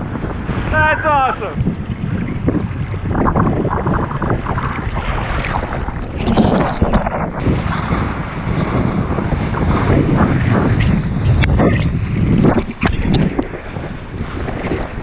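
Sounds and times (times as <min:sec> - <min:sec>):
board skimming over water: 0:00.0 - 0:15.0
wind buffeting microphone: 0:00.0 - 0:15.0.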